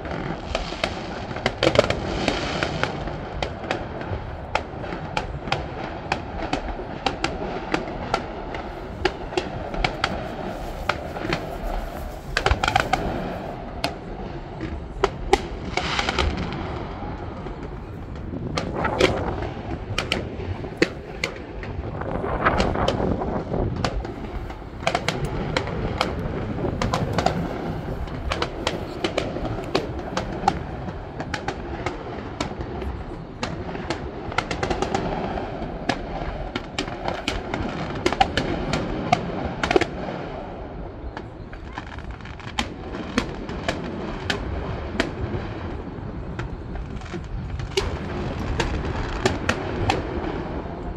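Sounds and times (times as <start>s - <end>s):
fireworks bursting: 0.0s - 50.9s
steady noisy background: 0.0s - 50.9s.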